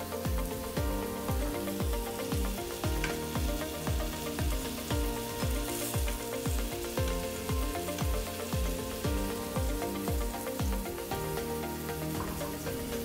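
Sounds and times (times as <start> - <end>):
background music with bass beat: 0.0 - 13.0
banana slices sizzling in pan: 0.0 - 13.0.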